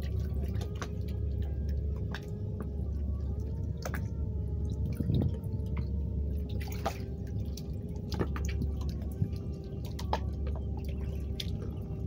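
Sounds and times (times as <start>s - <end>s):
faint wavering tone: 0.0s - 12.0s
low hum: 0.0s - 12.0s
water dripping and splashing: 0.0s - 12.0s.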